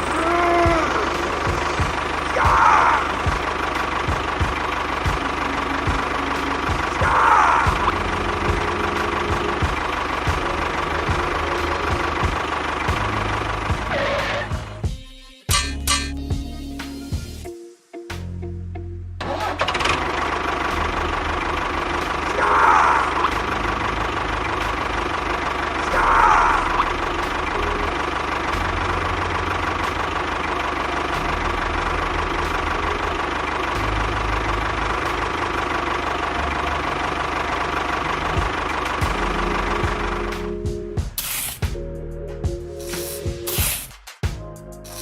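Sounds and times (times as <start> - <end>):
small engine running: 0.0 - 14.8, 19.2 - 41.7.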